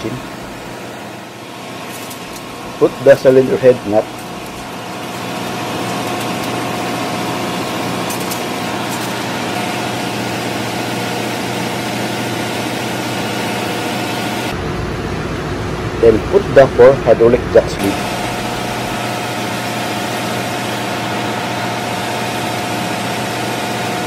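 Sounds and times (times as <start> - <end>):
engine-room machinery drone: 0.0 - 24.0.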